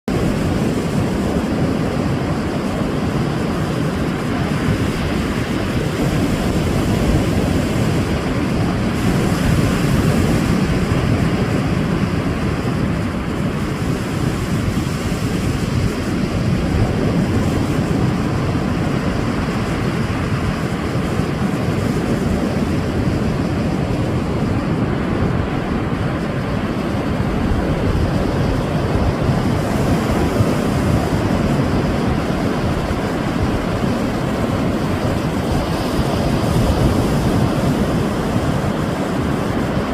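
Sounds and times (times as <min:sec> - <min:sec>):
sea waves washing onto shore: 0:00.1 - 0:39.9.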